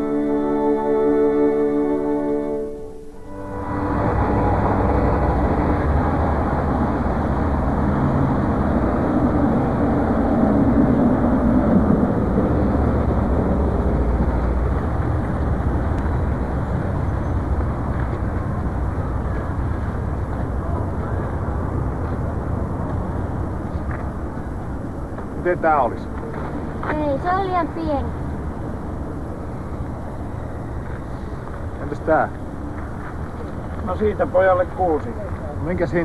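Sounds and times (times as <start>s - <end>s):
traffic rumble: 3.1s - 36.0s.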